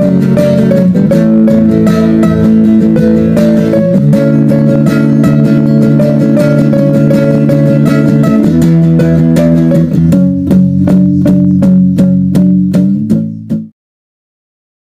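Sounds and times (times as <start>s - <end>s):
strummed guitar chords: 0.0s - 13.7s.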